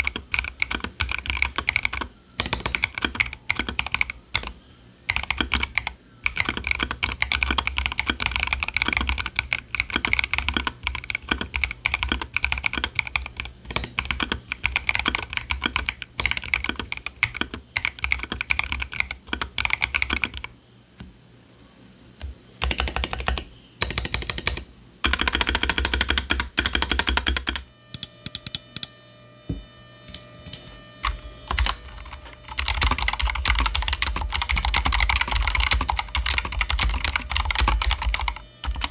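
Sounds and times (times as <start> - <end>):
typing on mechanical keyboard: 0.0 - 20.5, 22.6 - 27.6, 31.5 - 38.9
faint steady tones: 0.0 - 38.9.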